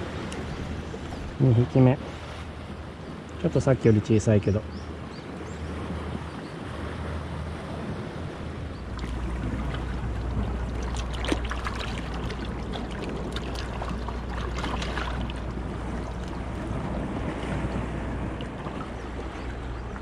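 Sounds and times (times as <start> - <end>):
water splashing and sloshing: 0.0 - 20.0
wind rumble on microphone: 0.0 - 20.0.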